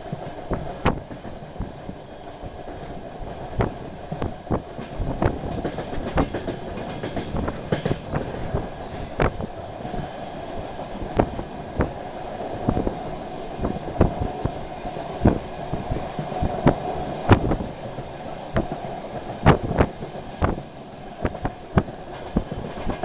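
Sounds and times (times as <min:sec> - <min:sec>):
wheels clicking over rail joints: 0:00.0 - 0:09.9, 0:10.9 - 0:23.0
train drone and rumble: 0:00.0 - 0:23.0.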